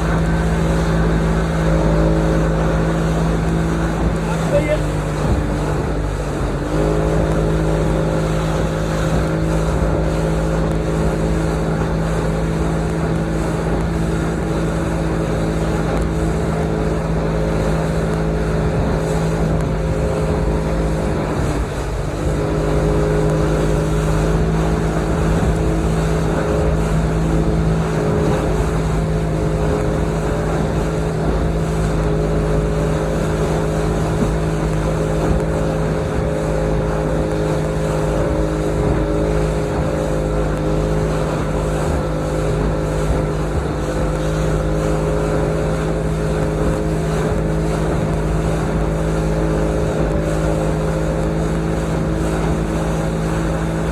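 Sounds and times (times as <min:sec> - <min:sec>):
motorboat engine running: 0:00.0 - 0:53.9
water noise: 0:00.0 - 0:53.9
wind noise: 0:00.0 - 0:53.9.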